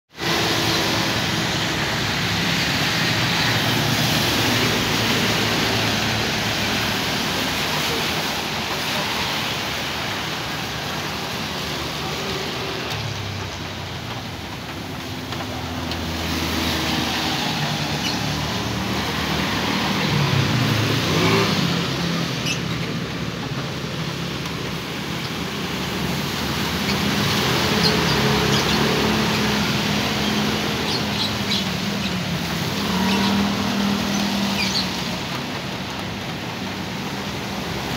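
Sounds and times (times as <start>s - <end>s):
tyres hissing on wet road: 0.1s - 37.9s
vehicle engines passing: 0.2s - 37.9s.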